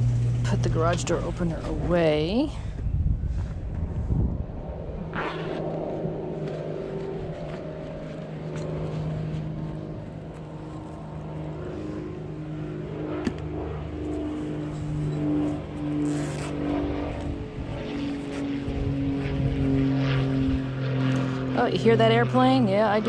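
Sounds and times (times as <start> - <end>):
propeller airplane droning: 0.0 - 23.0.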